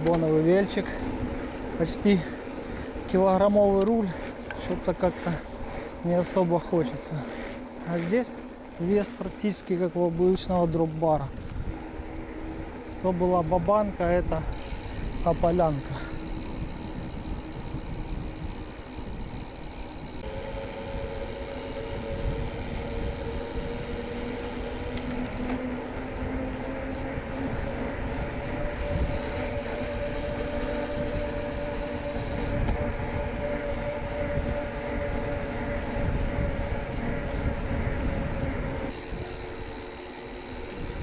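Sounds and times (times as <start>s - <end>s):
wind buffeting microphone: 0.0s - 7.8s, 10.1s - 41.0s
bicycle tyres humming: 0.0s - 41.0s.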